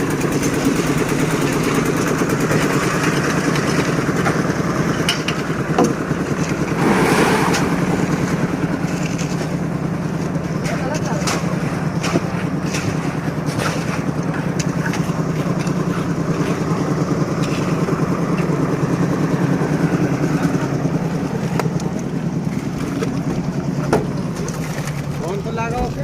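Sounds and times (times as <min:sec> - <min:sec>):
engine running with fast pulse: 0:00.0 - 0:25.2.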